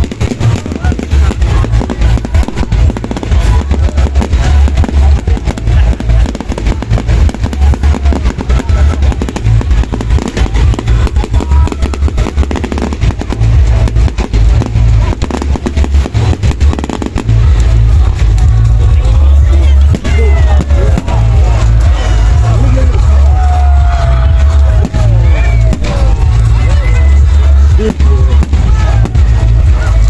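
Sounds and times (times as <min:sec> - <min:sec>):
fireworks cracks and bangs: 0:00.0 - 0:30.0
heavy low rumble: 0:00.0 - 0:30.0
music: 0:00.0 - 0:30.0.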